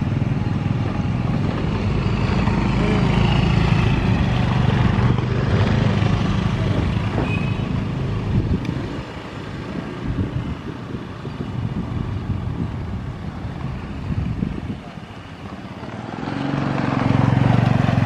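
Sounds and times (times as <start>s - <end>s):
motor scooters passing: 0.0s - 18.0s.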